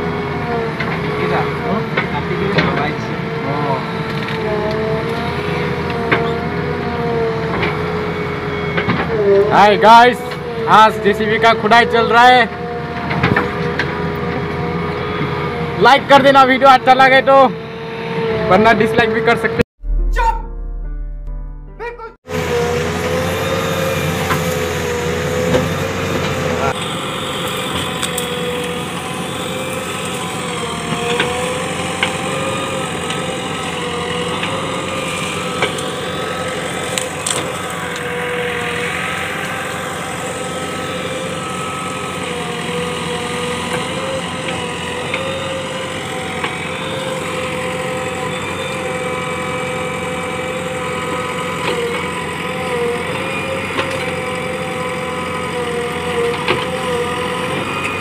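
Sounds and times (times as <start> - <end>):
diesel engine running: 0.0 - 20.1, 22.3 - 58.0.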